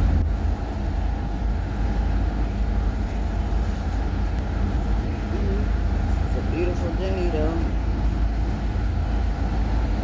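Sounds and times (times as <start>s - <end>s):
car road rumble and tyre noise: 0.0s - 10.0s.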